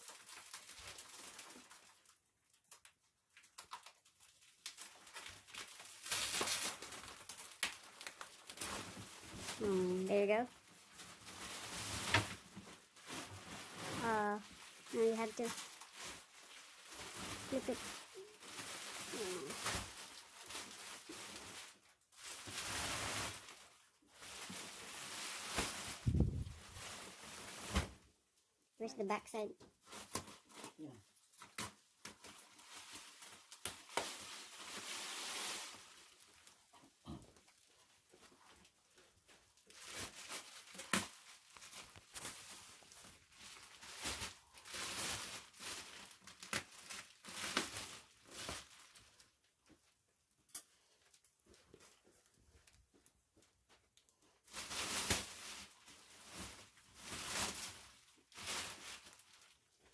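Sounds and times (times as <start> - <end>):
plastic wrapping rustling: 0.0 - 28.1, 28.8 - 59.9.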